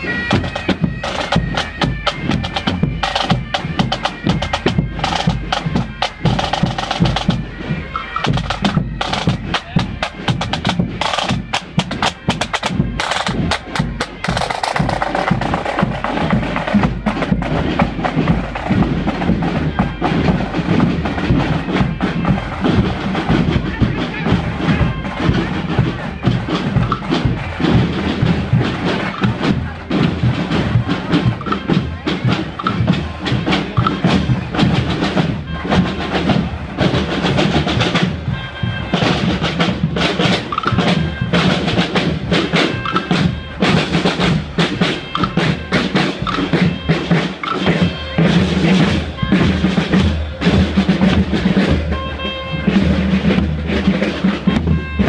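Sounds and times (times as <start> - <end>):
crowd voices: 0.0 - 55.0
marching drum corps: 0.0 - 55.0.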